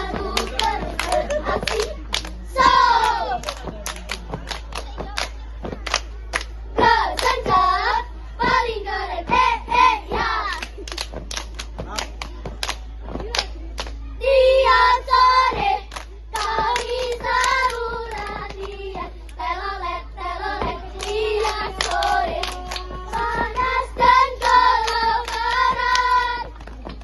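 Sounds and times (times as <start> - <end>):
children singing a cheer: 0.0 - 10.8, 13.9 - 26.6
children clapping in rhythm: 0.0 - 14.0, 14.7 - 27.0.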